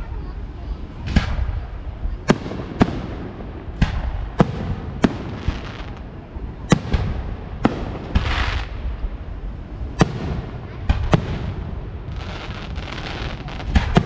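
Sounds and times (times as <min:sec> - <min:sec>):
fireworks bangs: 0:01.0 - 0:14.0.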